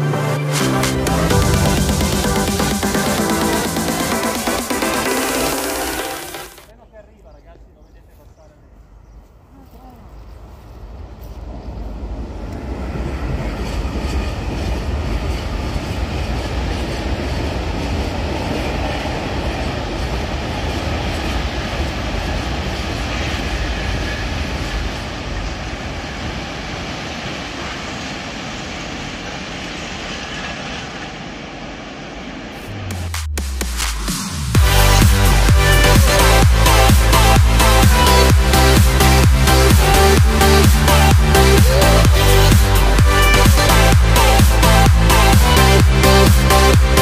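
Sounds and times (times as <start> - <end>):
freight train wheels rumbling: 0.5 - 6.8, 9.9 - 47.0.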